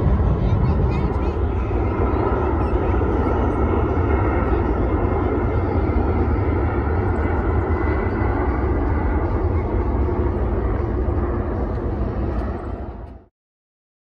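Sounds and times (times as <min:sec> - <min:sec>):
plane engine flying past: 0:00.0 - 0:13.3.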